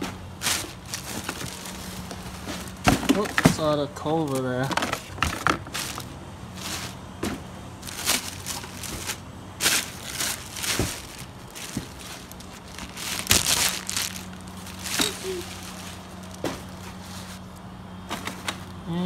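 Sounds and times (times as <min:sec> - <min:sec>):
plastic wrap crinkling: 0:00.4 - 0:07.0, 0:07.8 - 0:17.6.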